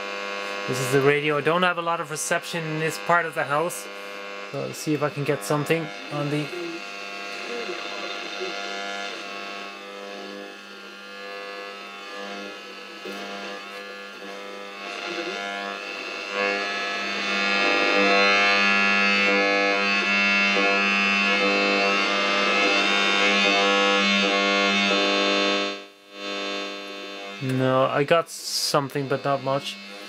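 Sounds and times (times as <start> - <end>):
radio music through small speaker: 0.0 - 30.0.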